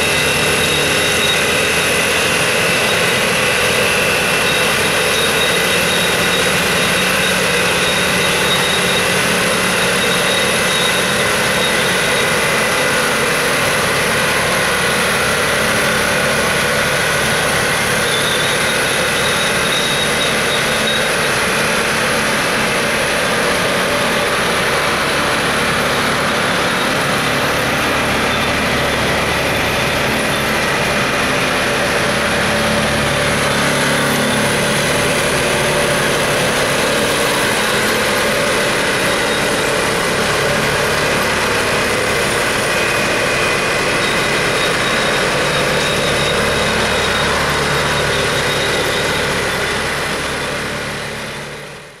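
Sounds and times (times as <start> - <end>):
diesel engines running: 0.0 - 52.0.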